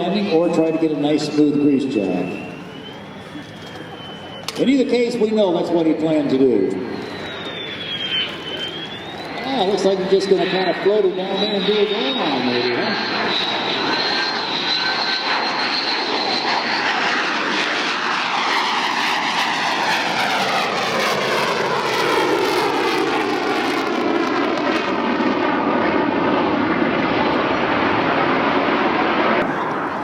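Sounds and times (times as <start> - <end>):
high jet whine: 0.0 - 30.0
jet engines roaring: 0.0 - 30.0.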